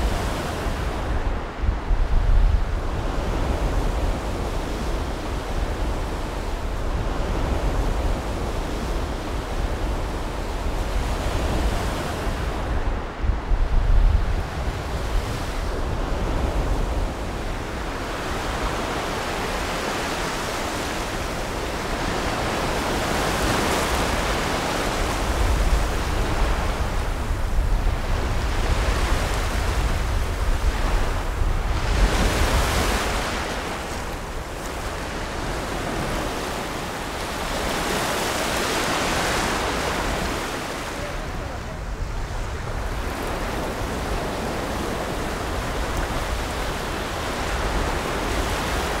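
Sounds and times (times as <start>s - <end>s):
wind rumbling on microphone: 0.0s - 49.0s.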